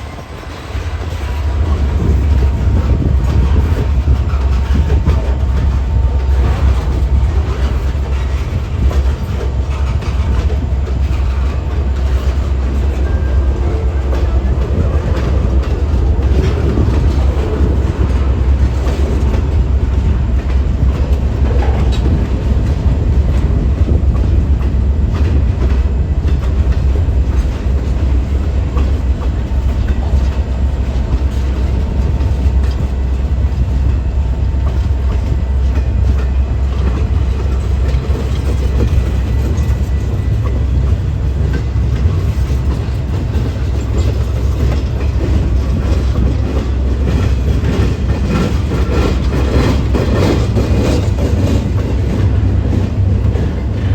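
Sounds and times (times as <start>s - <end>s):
train rumbling past: 0.0s - 53.9s
wheels clacking over rail joints: 0.0s - 53.9s.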